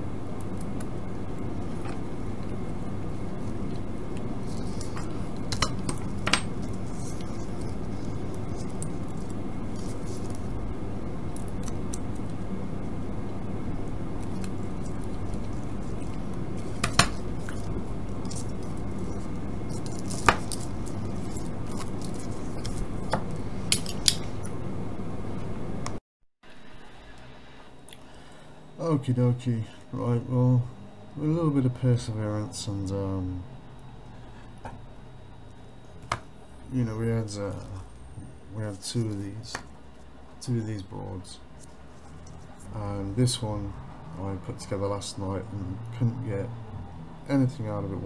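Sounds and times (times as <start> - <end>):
low background noise: 0.0 - 48.0.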